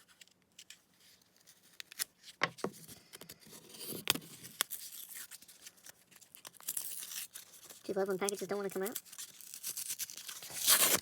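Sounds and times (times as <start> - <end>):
plastic packaging pried open: 0.0 - 2.3, 3.7 - 11.0.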